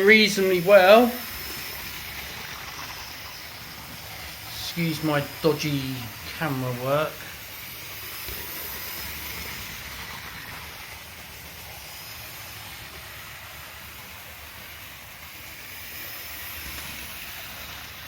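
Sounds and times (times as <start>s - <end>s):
model train motor whirring: 0.0s - 18.0s.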